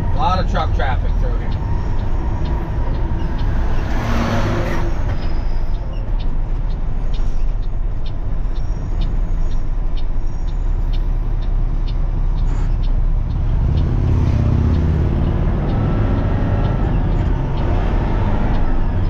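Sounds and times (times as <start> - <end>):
heavy traffic passing: 0.0 - 19.0
road and engine rumble: 0.0 - 19.0.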